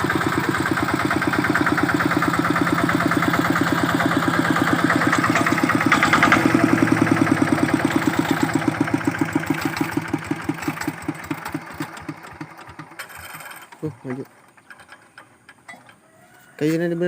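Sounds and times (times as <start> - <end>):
diesel tractor engine chugging: 0.0 - 15.7.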